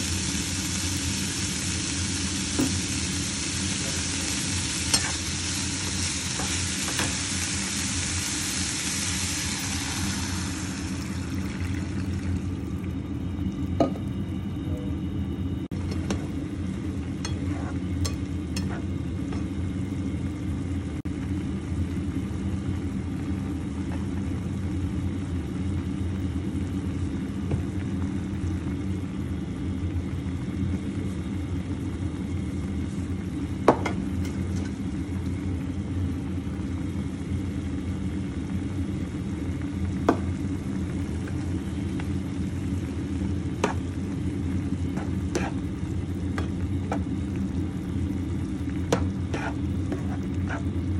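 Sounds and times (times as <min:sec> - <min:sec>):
stew boiling and bubbling: 0:00.0 - 0:50.9.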